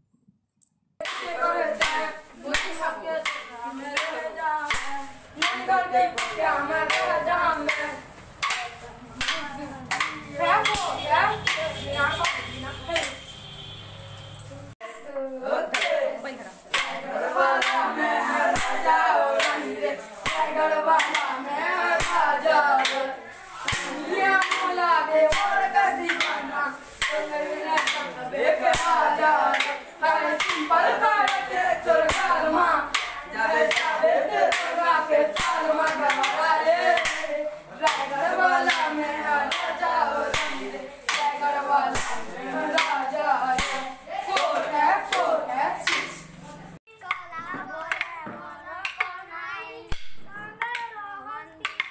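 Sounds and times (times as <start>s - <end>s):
boys singing in chorus: 1.0s - 13.1s, 14.8s - 51.9s
wooden sticks clacking: 1.0s - 13.3s, 15.7s - 46.3s, 46.9s - 49.2s, 49.9s - 51.9s.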